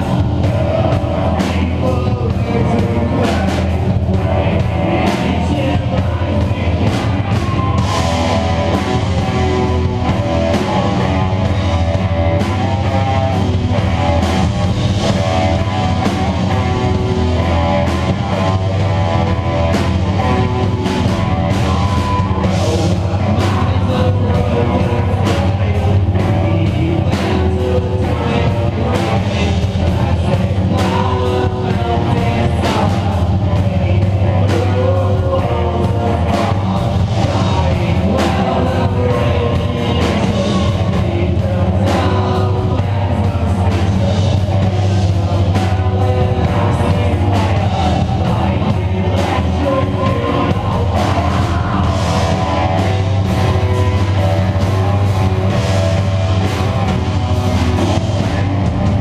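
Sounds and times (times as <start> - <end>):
rock band playing loudly: 0.0 - 59.0.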